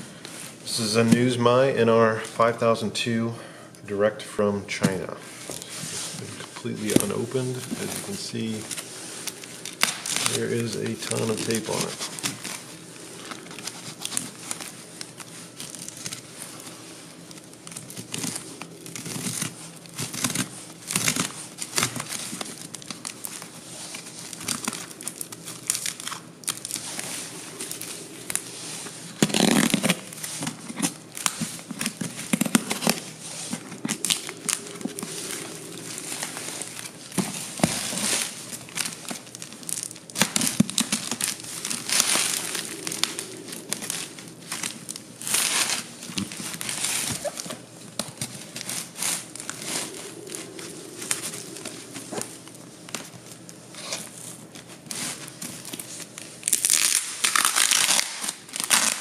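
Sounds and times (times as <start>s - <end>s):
packing tape peeling off cardboard: 8.0s - 59.0s.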